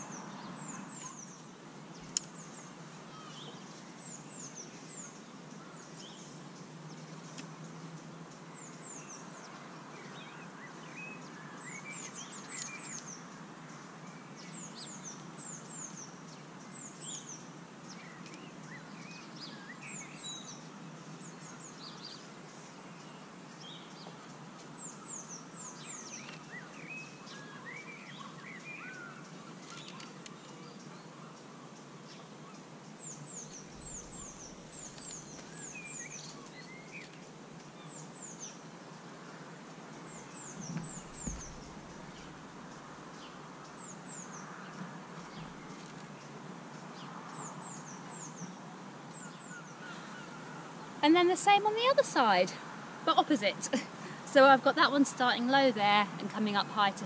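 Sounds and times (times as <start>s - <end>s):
open-air background hiss: 0.0s - 57.0s
small birds calling: 0.0s - 57.0s.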